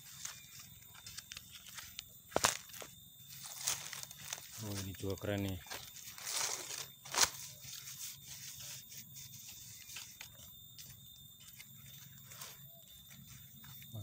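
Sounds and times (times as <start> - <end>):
footsteps in dry leaves: 0.0 - 14.0.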